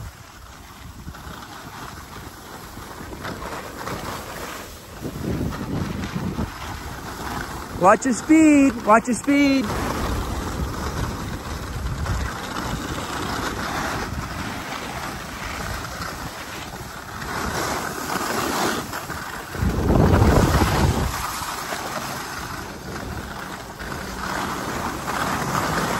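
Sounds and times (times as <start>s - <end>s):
skis hissing over snow: 0.0s - 25.9s
wind rumbling on microphone: 0.0s - 25.9s.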